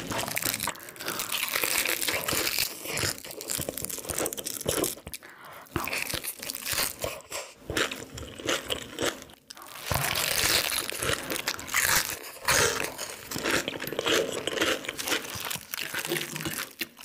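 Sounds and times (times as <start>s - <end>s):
crunching and chewing fried food: 0.0s - 17.0s.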